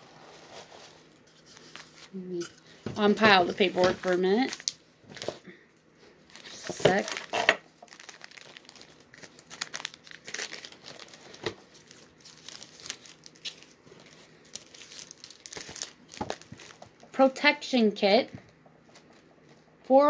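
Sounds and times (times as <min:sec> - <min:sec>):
paper and plastic crinkling: 0:00.1 - 0:05.5, 0:06.2 - 0:17.2.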